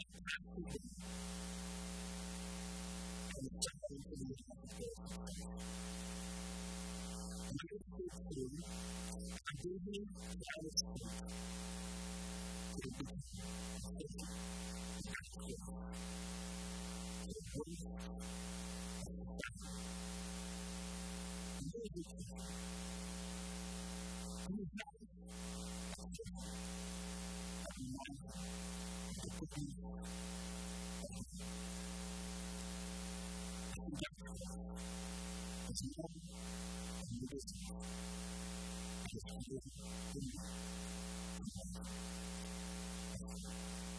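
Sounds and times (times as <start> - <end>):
electrical mains hum with hiss: 0.0 - 24.7, 25.3 - 43.9.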